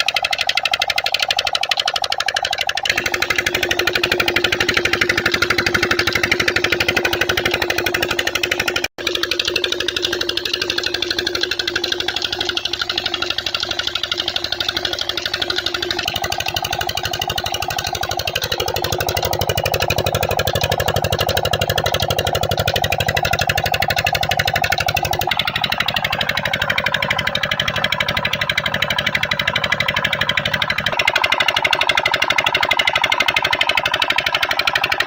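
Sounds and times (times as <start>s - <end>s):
diesel engine running pump: 0.0s - 35.0s.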